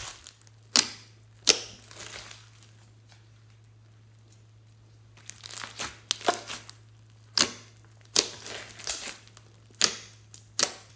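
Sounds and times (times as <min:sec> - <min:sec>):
slime squished by hand: 0:00.0 - 0:03.0, 0:05.2 - 0:10.9
foam beads popping and crackling: 0:00.0 - 0:03.8, 0:05.1 - 0:10.9.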